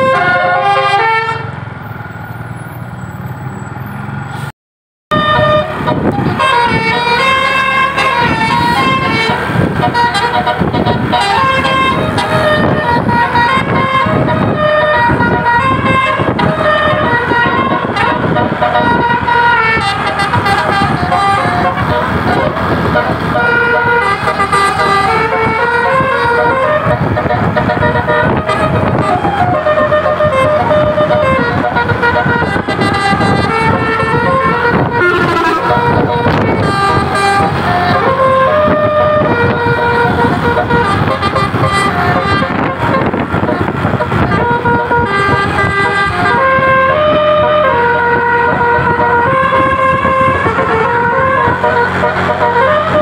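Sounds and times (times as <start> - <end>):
multi-tone air horn tune: 0.0 - 1.5, 5.1 - 53.0
bus engine noise: 0.0 - 4.5, 5.1 - 53.0.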